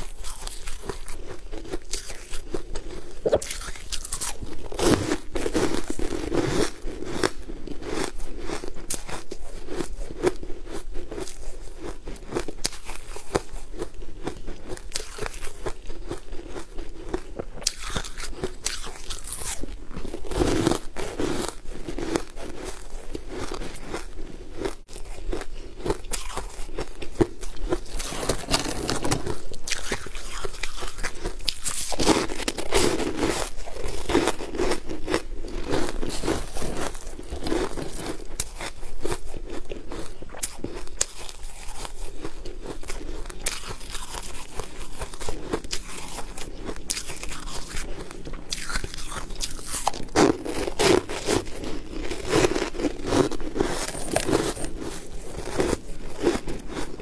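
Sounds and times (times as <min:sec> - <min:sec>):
chewing: 0:00.0 - 0:06.6, 0:07.2 - 0:57.0
crisp crunches of biting: 0:00.0 - 0:57.0.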